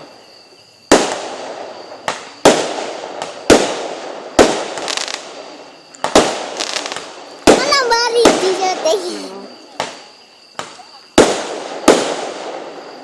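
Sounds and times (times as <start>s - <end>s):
fireworks bangs: 0.0s - 13.0s
small firework pops: 0.8s - 13.0s
echoing crackling decay: 0.9s - 13.0s.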